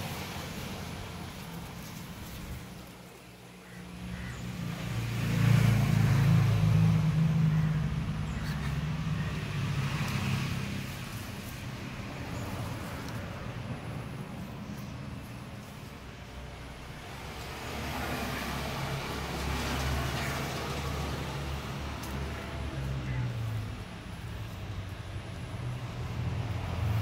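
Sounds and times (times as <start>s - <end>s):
outdoor traffic murmur: 0.0s - 27.0s
vehicle engine passing: 0.0s - 27.0s.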